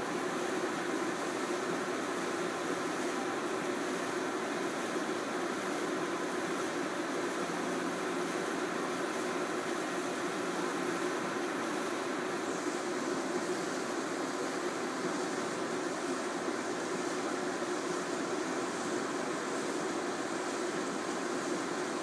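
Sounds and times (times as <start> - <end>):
machine hum with whooshing hiss: 0.0 - 22.0.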